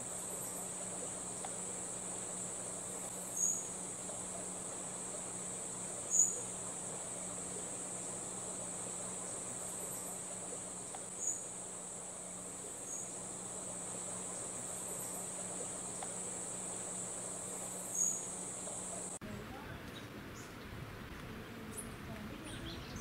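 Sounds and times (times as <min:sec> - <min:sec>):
insect chorus drone: 0:00.0 - 0:19.3, 0:19.9 - 0:23.0
low steady hum: 0:00.0 - 0:23.0.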